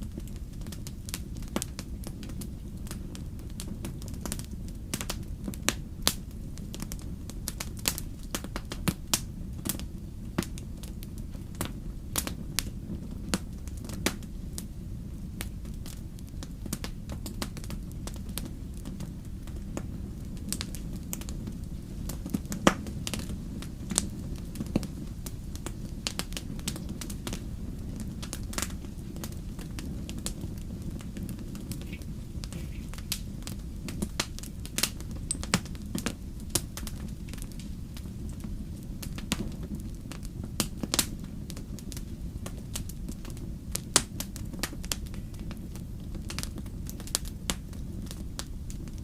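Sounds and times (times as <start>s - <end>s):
low rumble of flame: 0.0s - 49.0s
wood fire crackling: 0.0s - 49.0s.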